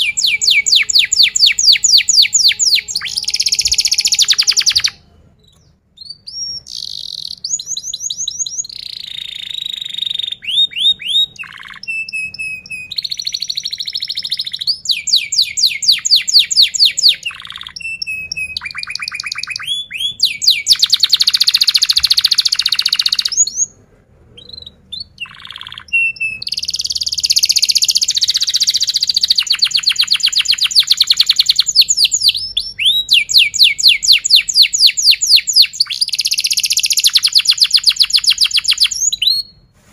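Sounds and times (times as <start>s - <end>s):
canary singing trills: 0.0s - 23.8s, 24.4s - 39.7s.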